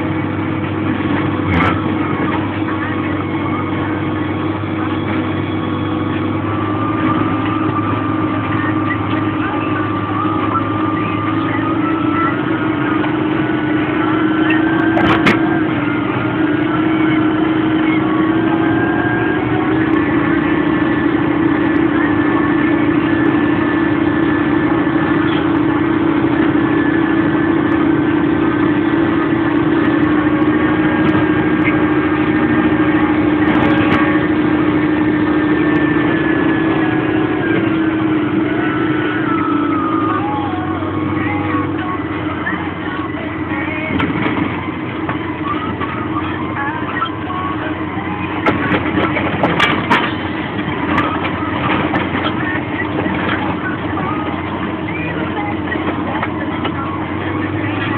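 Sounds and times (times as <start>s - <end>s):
tractor engine under load: 0.0s - 57.9s.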